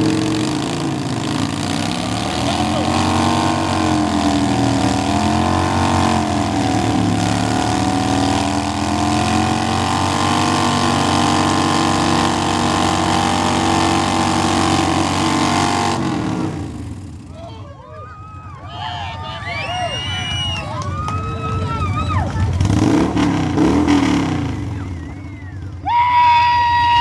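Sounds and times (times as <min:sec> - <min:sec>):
motorcycle engines revving high: 0:00.0 - 0:27.0.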